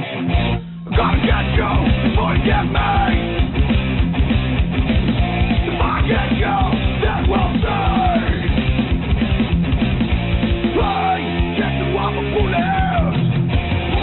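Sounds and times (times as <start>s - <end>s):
punk rock music with vocals: 0.0s - 14.0s.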